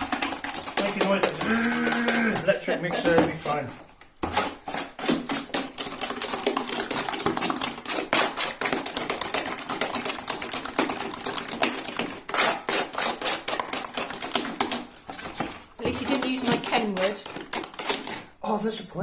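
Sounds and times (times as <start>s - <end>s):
compound stirred in a bucket: 0.0s - 18.6s.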